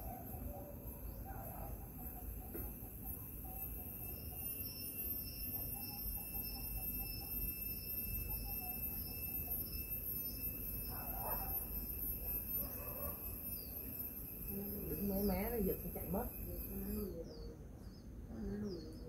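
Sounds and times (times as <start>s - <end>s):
faint chirps: 0.0s - 19.0s
high insect drone: 0.0s - 19.0s.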